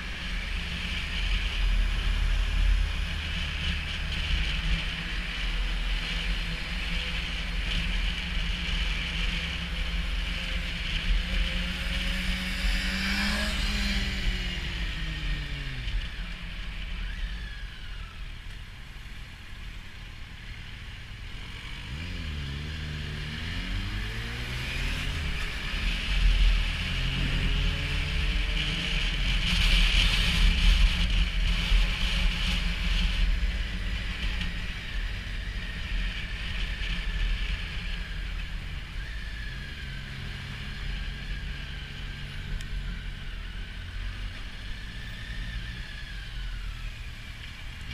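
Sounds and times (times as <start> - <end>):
motorcycle engine revving: 0.0 - 18.0, 20.3 - 47.9.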